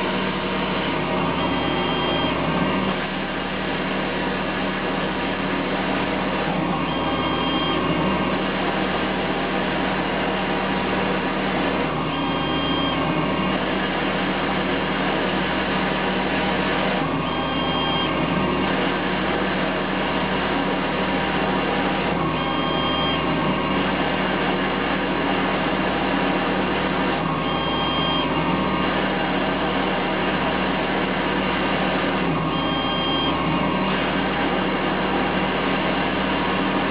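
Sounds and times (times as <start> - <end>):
machine whine: 0.0 - 36.9.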